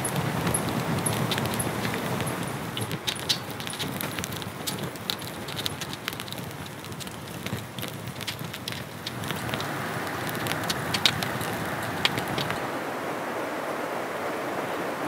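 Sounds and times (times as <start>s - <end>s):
campfire crackling and popping: 0.0s - 12.7s.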